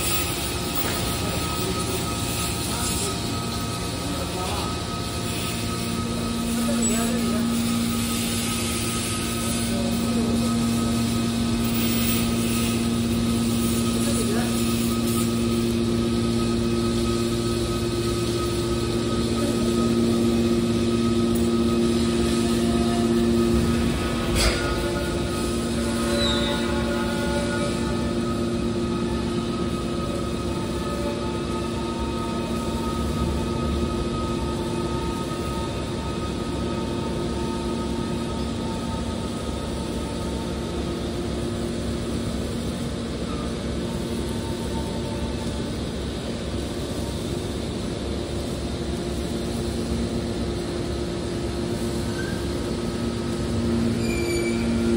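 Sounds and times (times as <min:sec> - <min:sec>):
motor and pump hum: 0:00.0 - 0:54.9.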